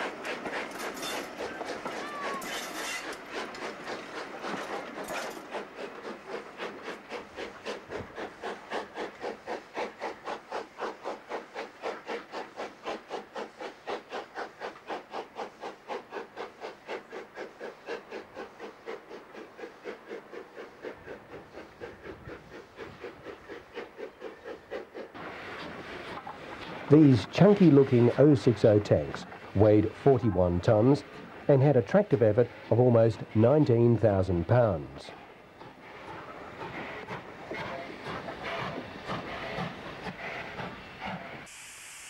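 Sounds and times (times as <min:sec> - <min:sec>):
steam locomotive chuffing: 0:00.0 - 0:42.0.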